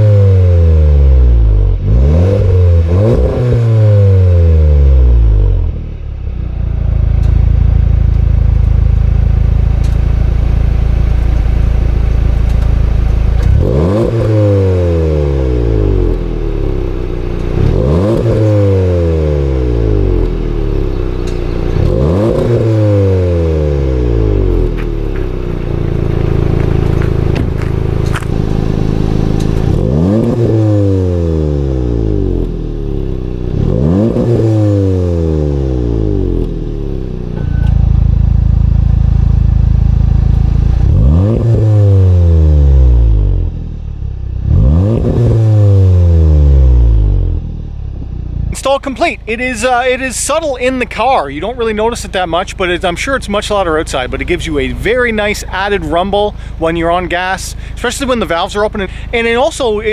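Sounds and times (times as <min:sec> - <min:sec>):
car exhaust idling and revving: 0:00.0 - 0:59.9.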